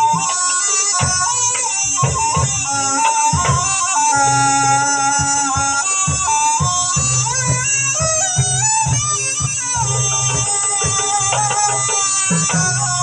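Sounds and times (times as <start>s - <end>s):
hand drum strokes: 0.0s - 13.0s
reedy wind melody: 0.0s - 13.0s.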